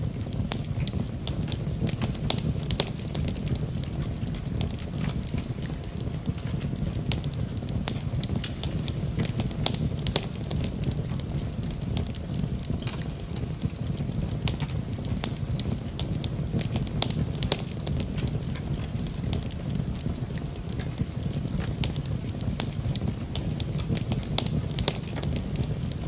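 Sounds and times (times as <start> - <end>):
burning logs popping: 0.0 - 26.0
wood fire crackling: 0.0 - 26.0.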